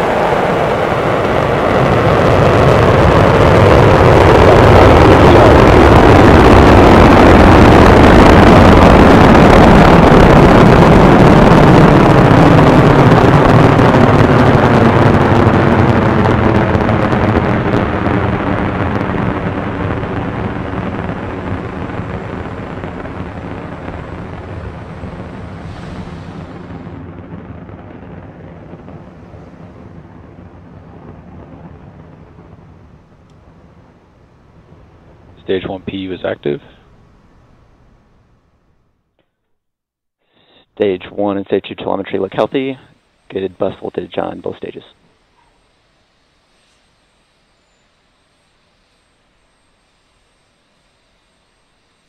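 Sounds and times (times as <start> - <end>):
rocket engines roaring: 0.0 - 38.8, 40.8 - 52.0.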